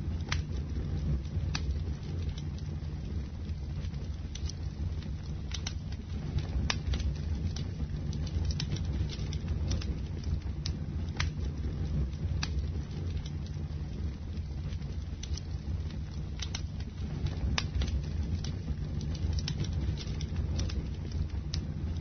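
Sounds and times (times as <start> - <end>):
flames rushing: 0.0 - 22.0
wood crackling and popping: 0.0 - 22.0.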